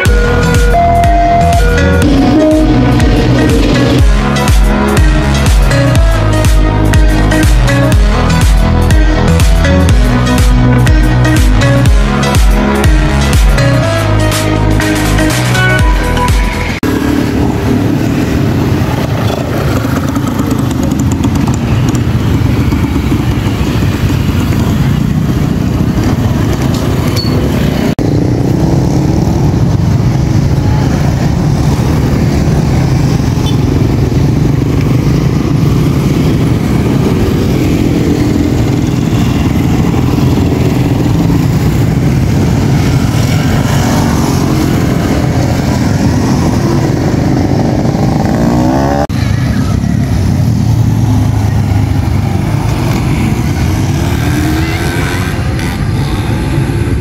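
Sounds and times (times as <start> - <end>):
engines running loudly: 0.0 - 57.0.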